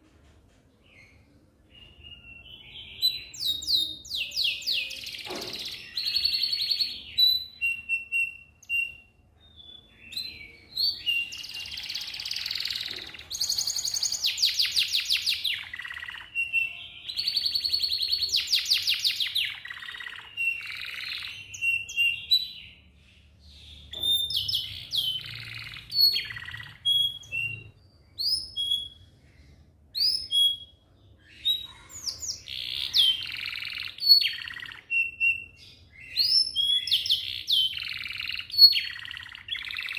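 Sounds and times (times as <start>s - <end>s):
canary singing trills: 0.9s - 39.9s.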